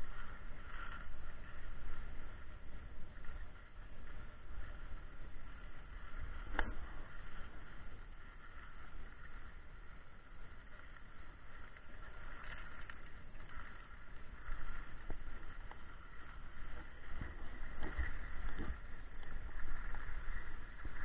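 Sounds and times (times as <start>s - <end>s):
skis scraping over snow: 0.0s - 21.0s
wind rumbling on microphone: 0.0s - 21.0s.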